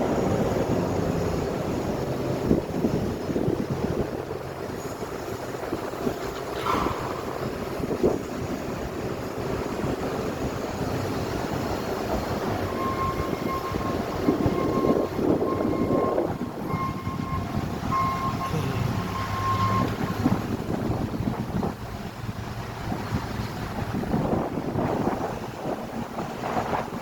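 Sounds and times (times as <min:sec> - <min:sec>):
street traffic rumbling: 0:00.0 - 0:27.0.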